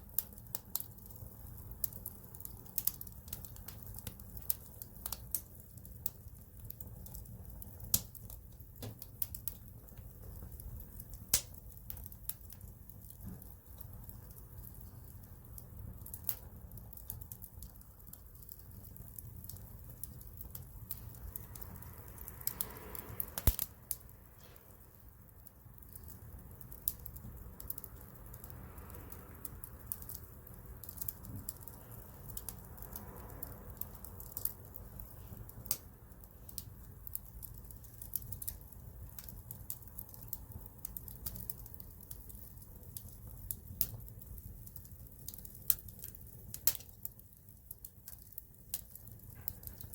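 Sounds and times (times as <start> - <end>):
campfire crackling and popping: 0.0 - 49.9
fire low rumble: 0.0 - 49.9.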